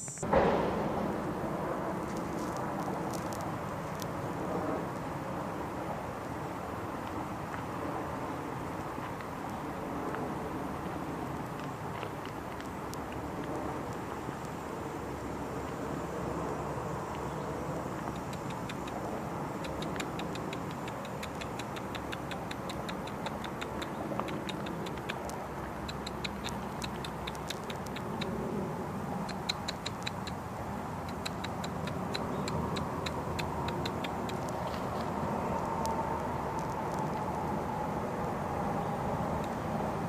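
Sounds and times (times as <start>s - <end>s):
distant road traffic: 0.0s - 40.0s.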